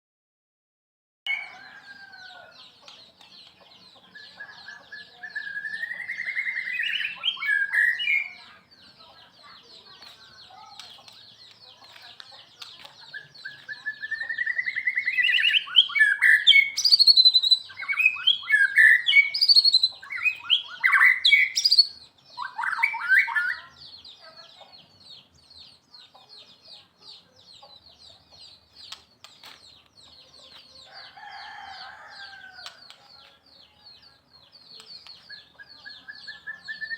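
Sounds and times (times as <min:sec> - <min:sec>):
songbird singing: 0:01.3 - 0:36.9.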